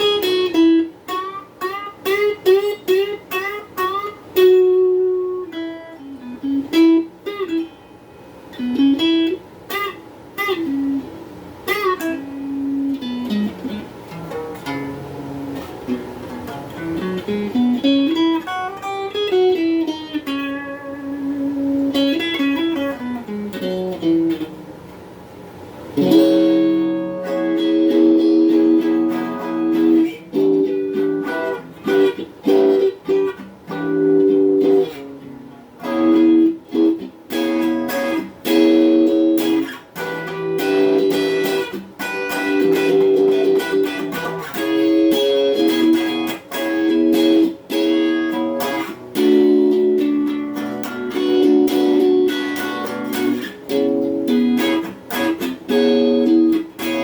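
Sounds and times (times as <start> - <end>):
electric guitar chords: 0.0 - 57.0
electric guitar melody: 0.0 - 57.0.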